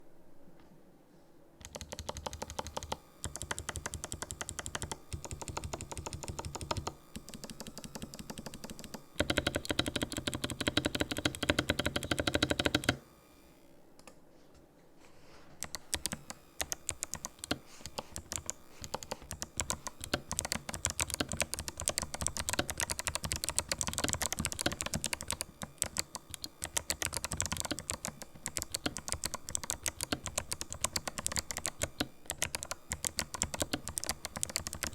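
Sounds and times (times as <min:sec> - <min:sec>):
clicky keyboard typing: 0:01.6 - 0:13.0, 0:15.6 - 0:34.9.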